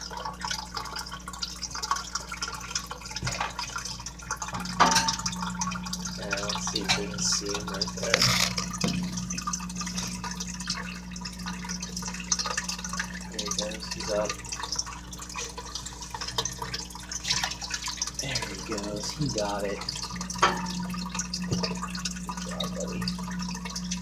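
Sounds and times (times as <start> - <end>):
steady low hum: 0.0 - 24.0
water dripping and trickling: 0.0 - 24.0.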